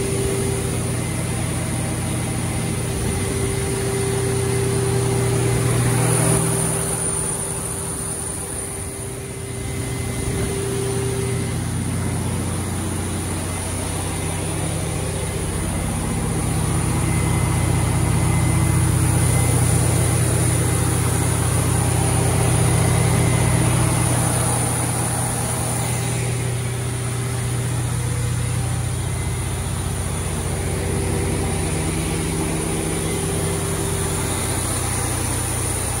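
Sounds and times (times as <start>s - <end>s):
diesel generator running: 0.0s - 36.0s.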